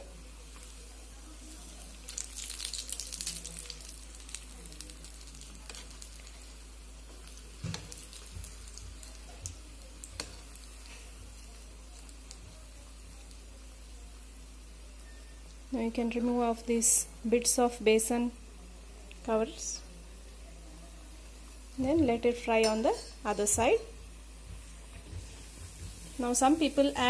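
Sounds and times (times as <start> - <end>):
hot oil sizzling and crackling: 0.0 - 27.0.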